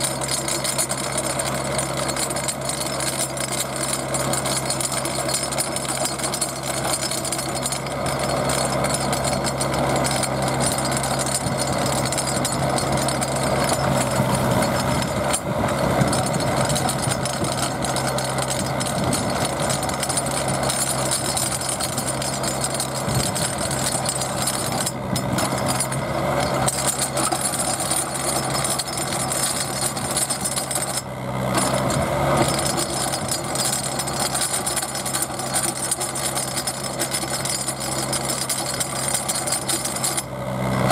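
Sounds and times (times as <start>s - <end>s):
auger boring into ground: 0.0s - 40.9s
drill rig engine running: 0.0s - 40.9s.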